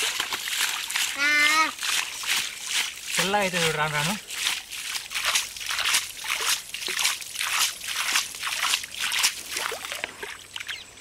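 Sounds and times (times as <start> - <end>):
hand splashing water: 0.0 - 10.8.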